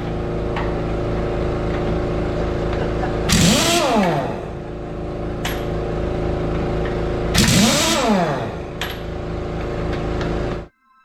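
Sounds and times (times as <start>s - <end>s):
diesel truck engine revving: 0.0s - 10.7s.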